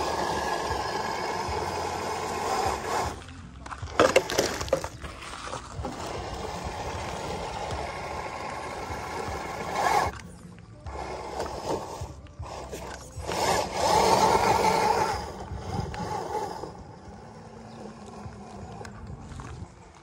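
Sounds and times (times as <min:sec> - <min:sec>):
rc truck motor and gears whining: 0:00.0 - 0:20.0
tyres grinding over gravel: 0:00.0 - 0:20.0.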